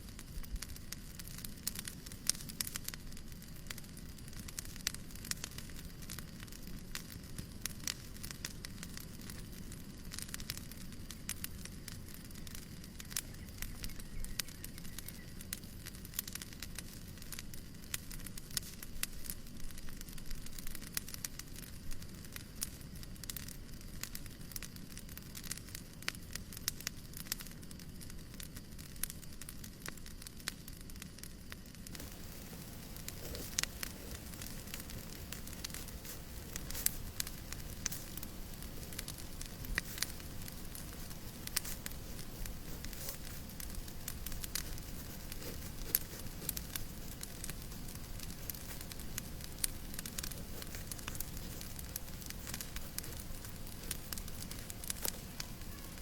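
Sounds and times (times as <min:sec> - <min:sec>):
fire hiss: 0:00.0 - 0:56.0
fireplace fire crackling: 0:00.0 - 0:56.0.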